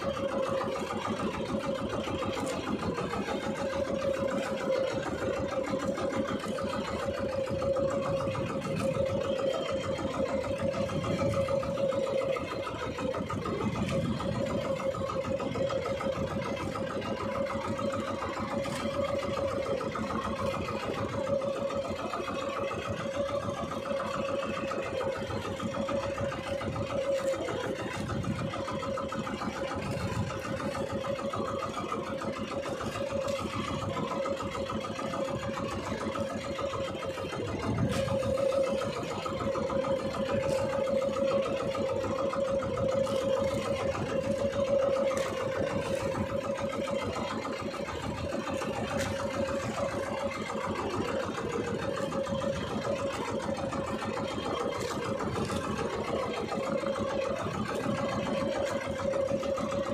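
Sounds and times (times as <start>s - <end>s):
small boat engine droning: 0.0s - 59.9s.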